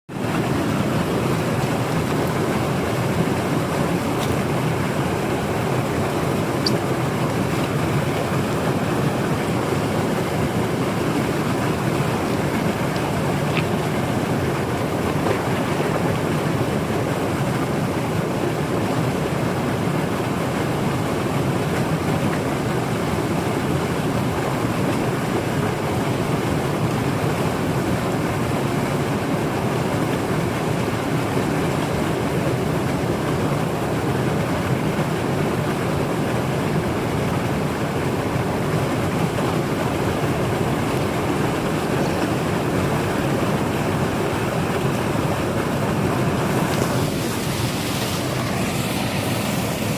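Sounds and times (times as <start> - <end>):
stream rushing over rocks: 0.1 - 49.9.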